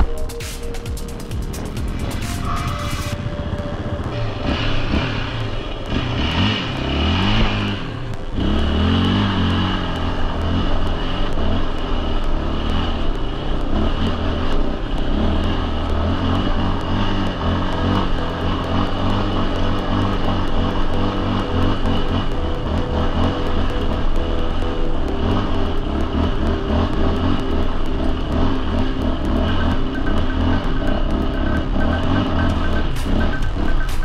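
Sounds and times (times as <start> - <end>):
quad engine revving: 1.5 - 34.0.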